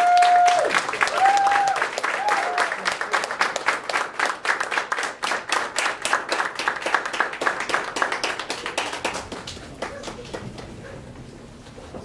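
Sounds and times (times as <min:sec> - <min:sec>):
audience applause: 0:00.0 - 0:11.3.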